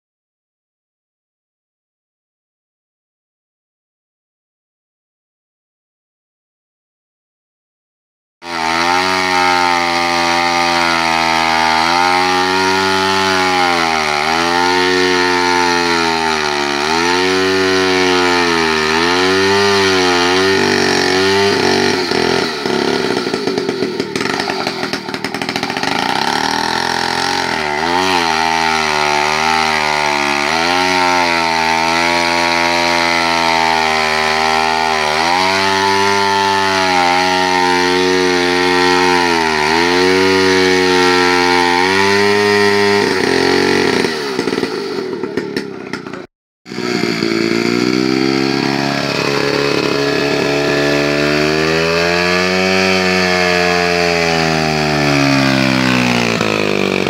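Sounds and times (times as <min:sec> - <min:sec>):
chainsaw cutting log: 0:08.4 - 0:57.0.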